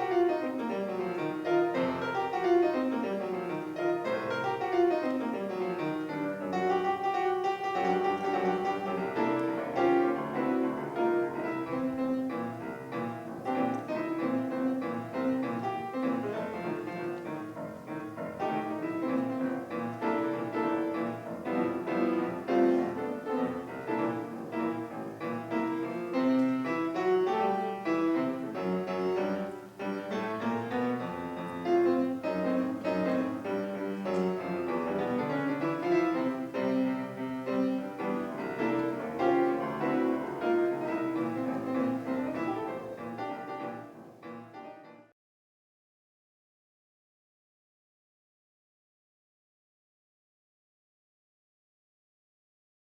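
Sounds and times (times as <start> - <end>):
piano music: 0.0 - 45.1.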